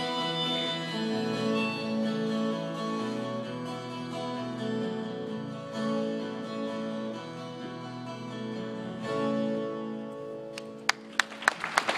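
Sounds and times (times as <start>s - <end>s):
school band with acoustic guitar: 0.0s - 11.9s.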